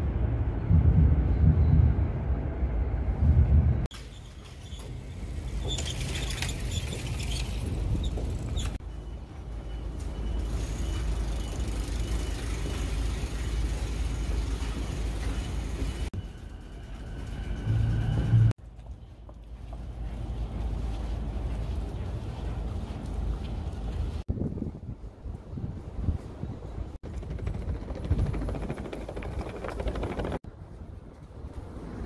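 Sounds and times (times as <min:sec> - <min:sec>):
rumble of passing vehicles: 0:00.0 - 0:32.0.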